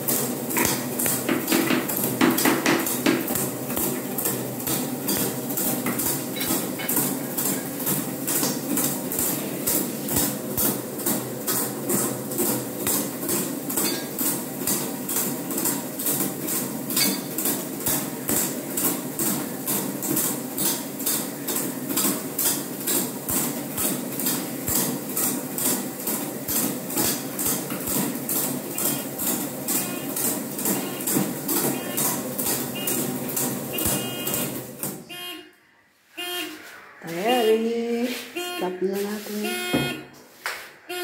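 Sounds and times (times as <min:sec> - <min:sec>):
mortar mixer motor hum: 0:00.0 - 0:17.0, 0:17.6 - 0:35.1.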